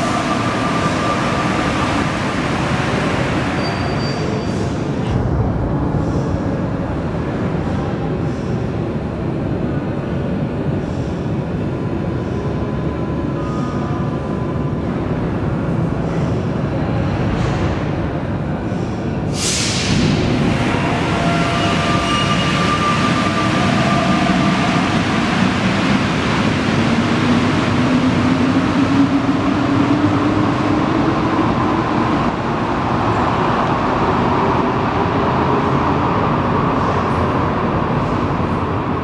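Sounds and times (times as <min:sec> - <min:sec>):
train running rumble: 0:00.0 - 0:39.0.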